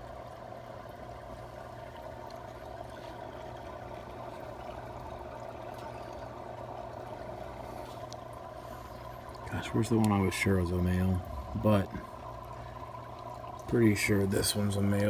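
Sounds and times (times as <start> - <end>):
aquarium filter hum: 0.0 - 15.0
water trickling: 0.0 - 15.0.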